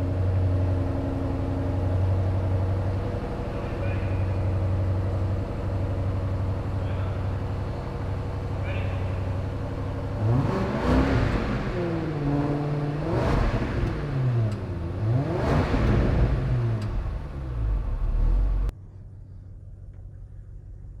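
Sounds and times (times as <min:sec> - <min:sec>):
car engine revving: 0:00.0 - 0:18.7.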